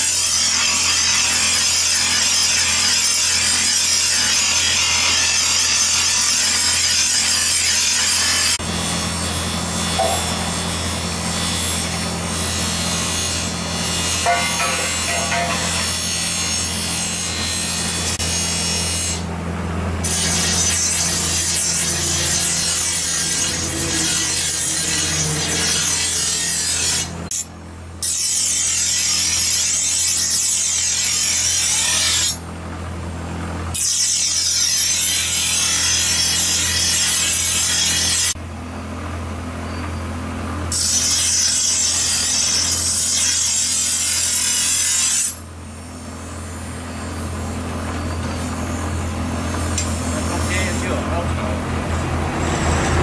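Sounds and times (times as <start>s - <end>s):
blade grinding on grinding wheel: 0.0s - 19.3s, 20.0s - 32.4s, 33.7s - 38.4s, 40.7s - 53.0s.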